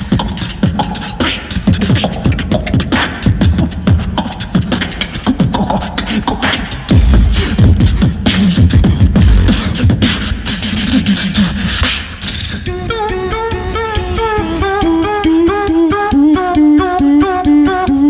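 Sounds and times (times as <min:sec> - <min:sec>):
beatboxing into a microphone: 0:00.0 - 0:18.0.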